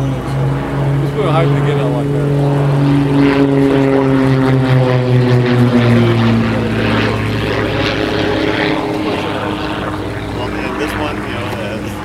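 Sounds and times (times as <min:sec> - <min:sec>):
propeller airplane engine droning: 0:00.0 - 0:12.0.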